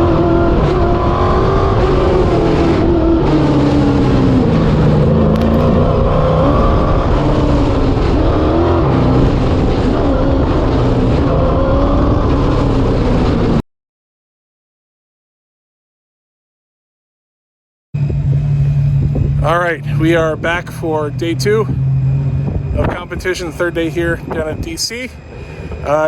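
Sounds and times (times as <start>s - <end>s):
car engine driven hard: 0.0s - 13.6s, 18.0s - 26.0s.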